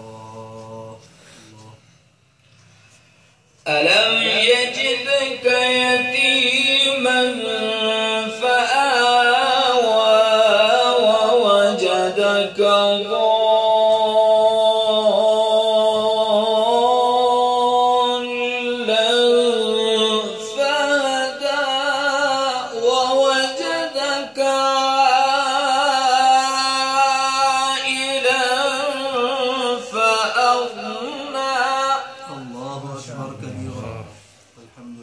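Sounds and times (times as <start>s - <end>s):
man chanting melodic recitation: 0.0s - 1.8s, 3.6s - 35.0s.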